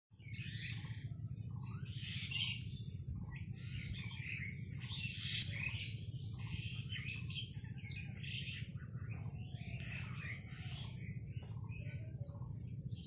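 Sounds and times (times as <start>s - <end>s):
small birds chirping: 0.1s - 13.0s
low background hum: 0.2s - 13.0s.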